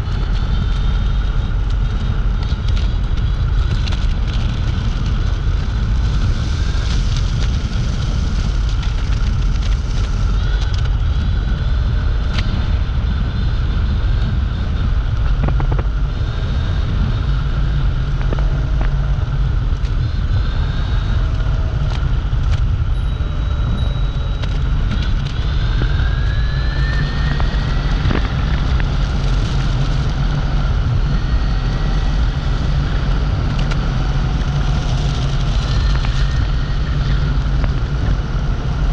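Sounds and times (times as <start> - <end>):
electric motor whine: 0.0 - 38.9
wind on microphone: 0.0 - 38.9.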